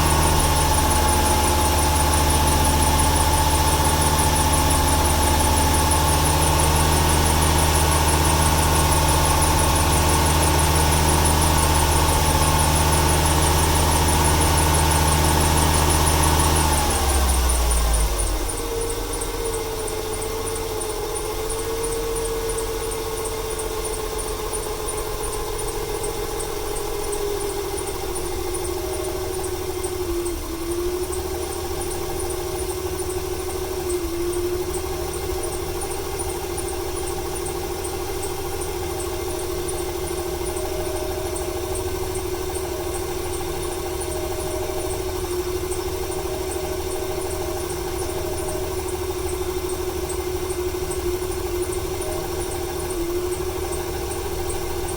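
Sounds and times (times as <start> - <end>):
engine idling roughly with misfire: 0.0 - 54.9.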